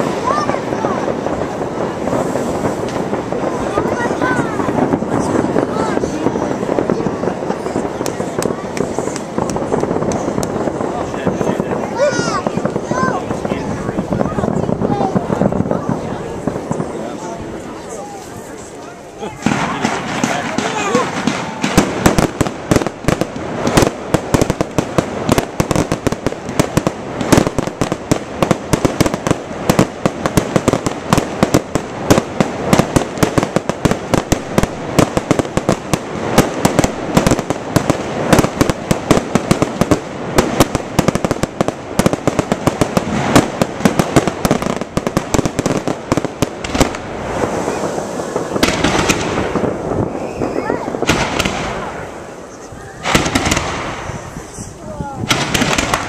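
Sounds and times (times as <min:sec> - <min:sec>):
fireworks bursting with sharp bangs: 0:00.0 - 0:56.0.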